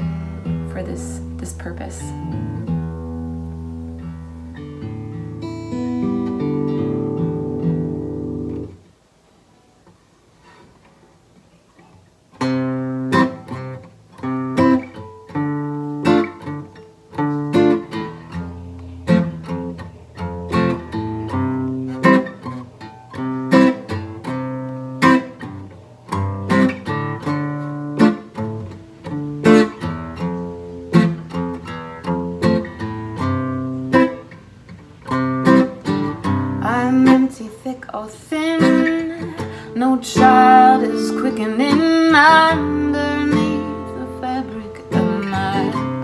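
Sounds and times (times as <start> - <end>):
acoustic guitar strumming: 0.0 - 8.9, 12.3 - 46.0.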